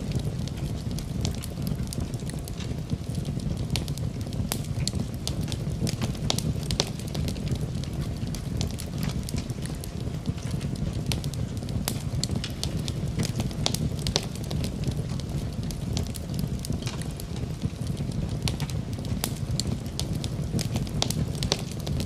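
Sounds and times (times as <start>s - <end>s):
fire crackling and popping: 0.0s - 22.0s
flames rumbling: 0.0s - 22.0s.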